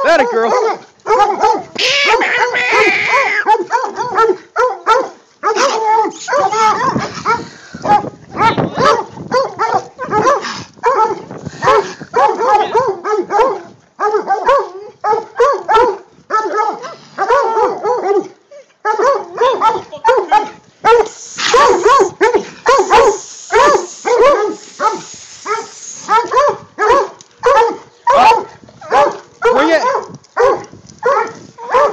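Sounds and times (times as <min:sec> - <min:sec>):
hounds baying: 0:00.0 - 0:31.9.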